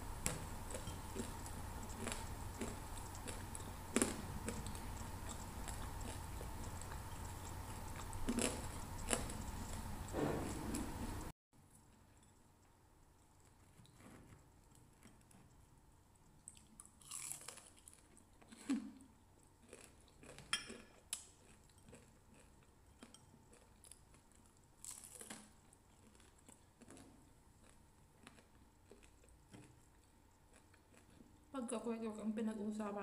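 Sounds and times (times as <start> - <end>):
faint chewing and crunching: 0.0 - 32.1.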